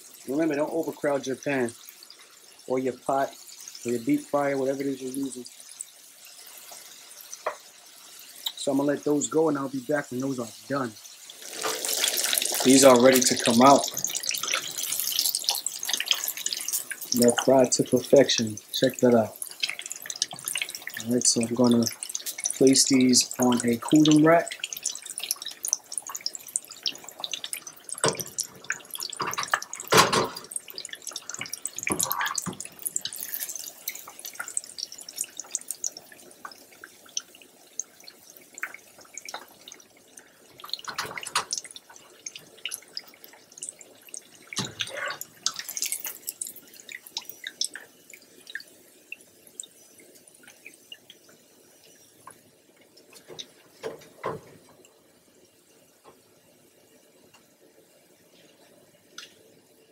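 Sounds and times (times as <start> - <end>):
oil sizzling and crackling: 0.0 - 59.9.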